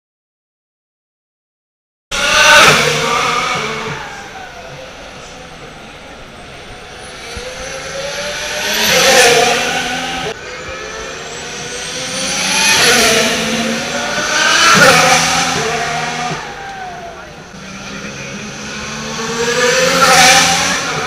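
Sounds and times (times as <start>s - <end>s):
racing cars passing at speed: 2.1s - 21.0s.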